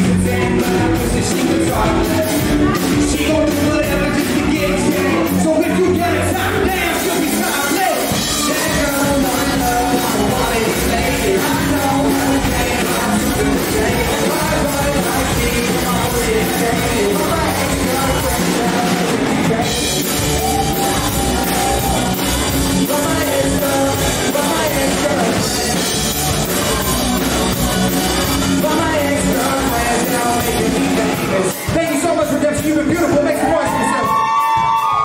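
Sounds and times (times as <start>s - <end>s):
man singing into a microphone: 0.0s - 20.2s, 22.7s - 27.4s, 28.2s - 34.7s
drum kit: 0.0s - 35.0s.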